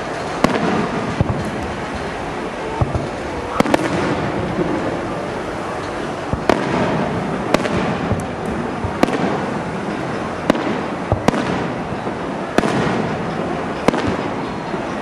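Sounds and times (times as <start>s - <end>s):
firework shells bursting: 0.0s - 14.9s
noisy fireworks display background: 0.0s - 15.0s.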